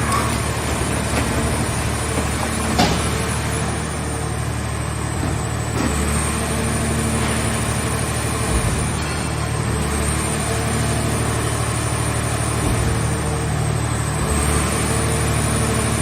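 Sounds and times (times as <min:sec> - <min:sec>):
baler engine and hydraulics running: 0:00.0 - 0:16.0.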